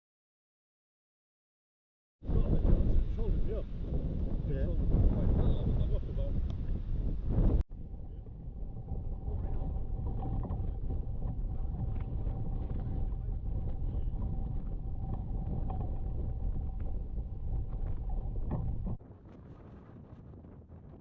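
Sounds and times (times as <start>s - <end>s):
wind buffeting microphone: 2.2s - 21.0s.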